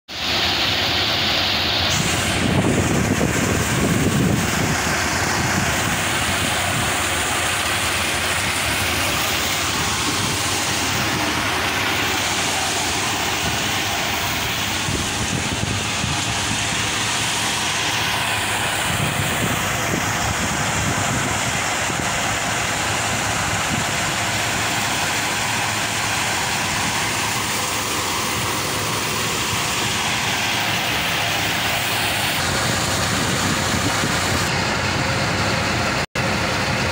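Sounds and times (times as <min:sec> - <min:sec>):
threshing machine running: 0:00.1 - 0:36.9
tractor engine: 0:00.1 - 0:36.9.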